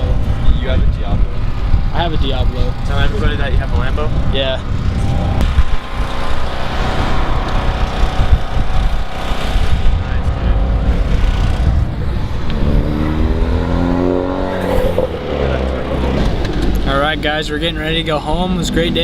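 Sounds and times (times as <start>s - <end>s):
car engine revving: 1.2s - 19.0s.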